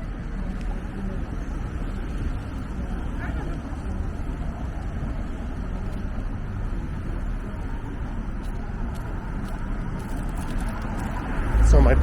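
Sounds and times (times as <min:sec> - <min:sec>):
passing cars: 0:00.0 - 0:12.0.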